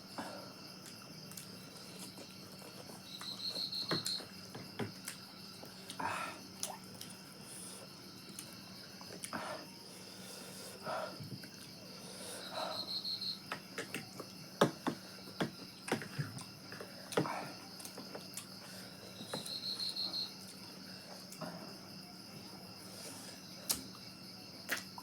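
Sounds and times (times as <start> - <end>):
cricket chirping: 0.0 - 25.0
insect drone: 0.0 - 25.0.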